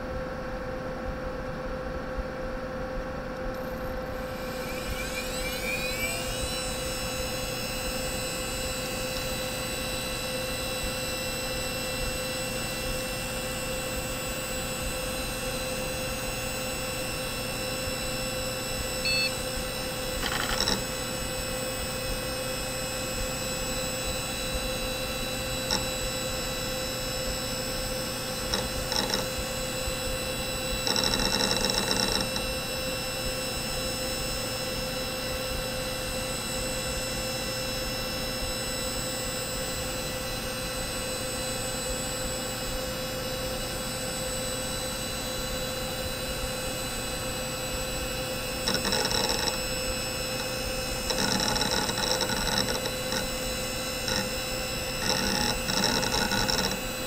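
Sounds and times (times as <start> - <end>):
server hum with whining tones: 0.0 - 57.0.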